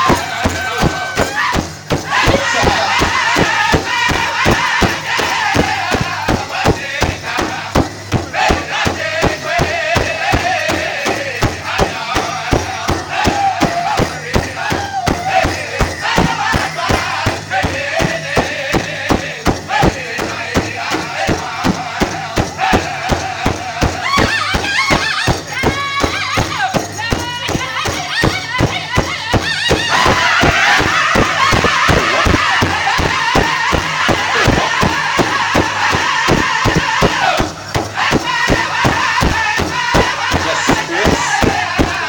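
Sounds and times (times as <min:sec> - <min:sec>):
large drum steady beat: 0:00.0 - 0:42.0
singers high-pitched chant: 0:00.0 - 0:42.0.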